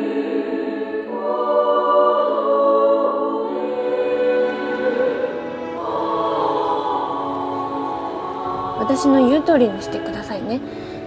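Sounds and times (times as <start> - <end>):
choir singing slow chords: 0.0 - 11.0.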